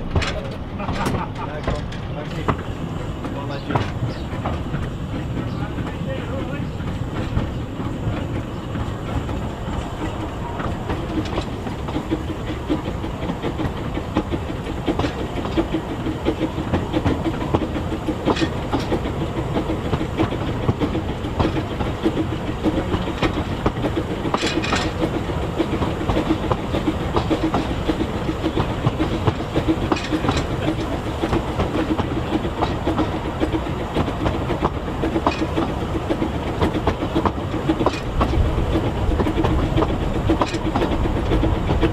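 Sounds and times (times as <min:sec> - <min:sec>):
train rumbling: 0:00.0 - 0:41.9
wheels clicking over rail joints: 0:00.0 - 0:41.9.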